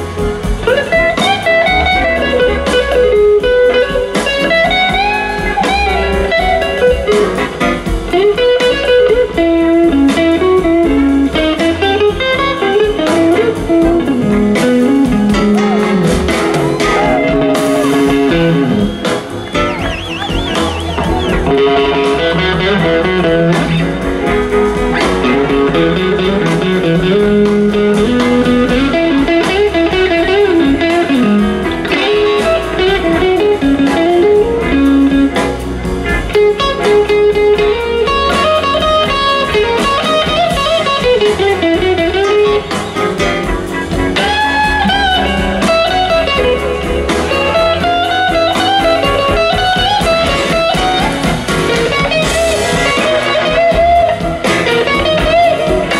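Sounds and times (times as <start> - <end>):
bass: 0.0 - 55.9
drums: 0.0 - 55.9
electric guitar solo: 0.0 - 55.9.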